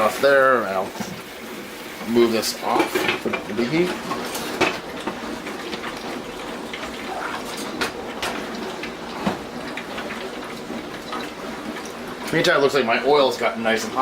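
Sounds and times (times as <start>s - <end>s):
liquid crackling in a pan: 0.0s - 14.0s.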